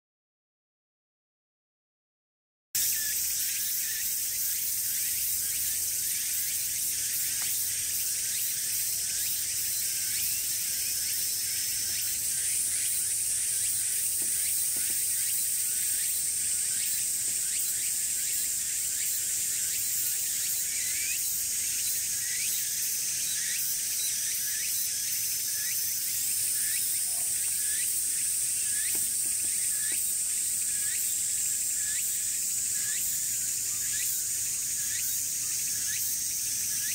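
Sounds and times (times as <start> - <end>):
cicadas buzzing: 2.8 - 36.9.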